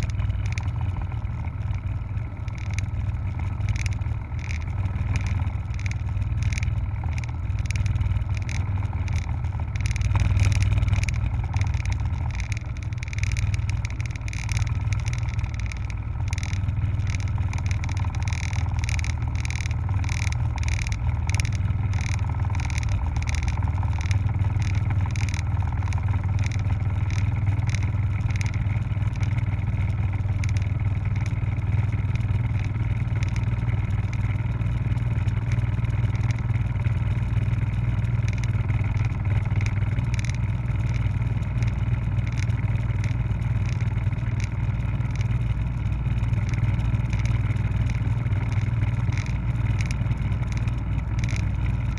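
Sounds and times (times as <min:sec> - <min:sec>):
helicopter engine and rotor drone: 0:00.0 - 0:51.9.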